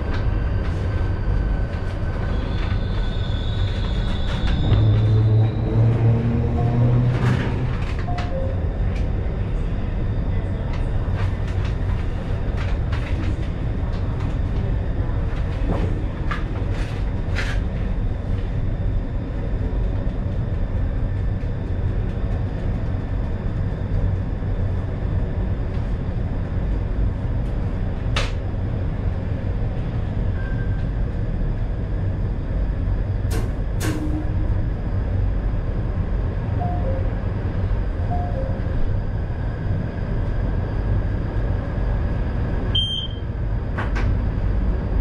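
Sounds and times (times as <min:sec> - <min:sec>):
train motors and wheels rumbling: 0:00.0 - 0:45.0.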